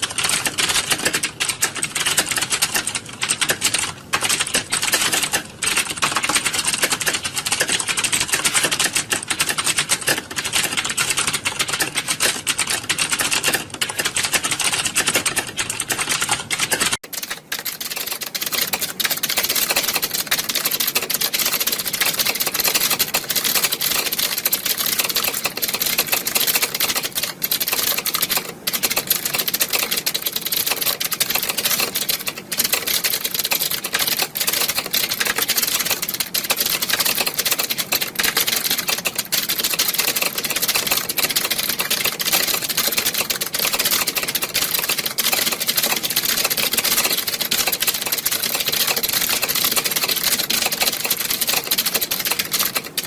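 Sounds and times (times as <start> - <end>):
keyboards typing clatter: 0.0 - 53.0.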